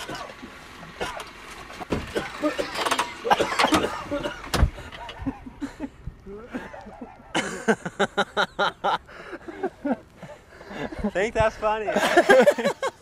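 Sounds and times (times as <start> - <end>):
men laughing: 2.2 - 13.0.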